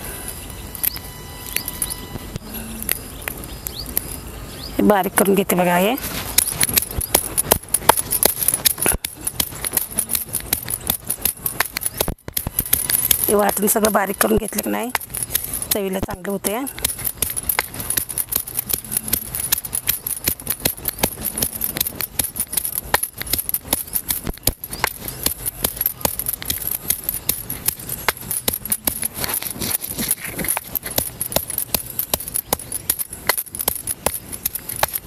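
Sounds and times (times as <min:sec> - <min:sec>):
bangles jingling: 0:00.0 - 0:35.0
stone pestle pounding in mortar: 0:06.4 - 0:35.0.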